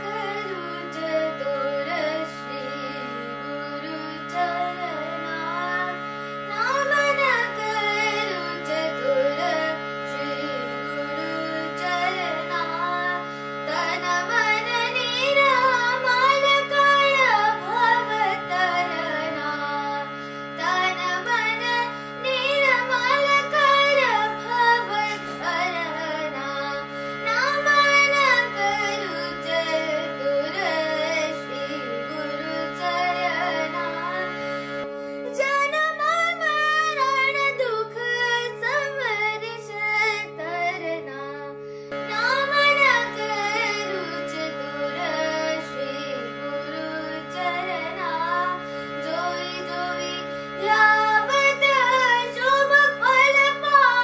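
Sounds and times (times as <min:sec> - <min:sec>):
boy singing: 0:00.0 - 0:54.0
harmonium drone: 0:00.0 - 0:54.0.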